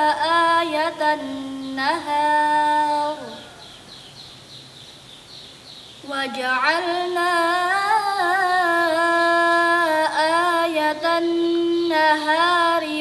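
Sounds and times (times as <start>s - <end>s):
girl chanting recitation: 0.0s - 3.6s, 6.0s - 13.0s.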